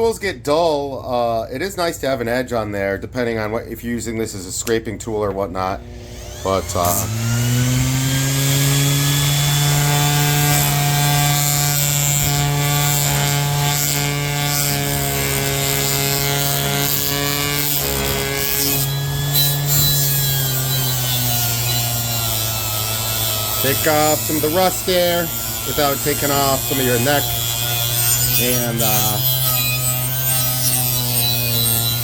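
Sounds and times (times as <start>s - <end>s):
orbital sander sanding metal: 5.6s - 32.0s.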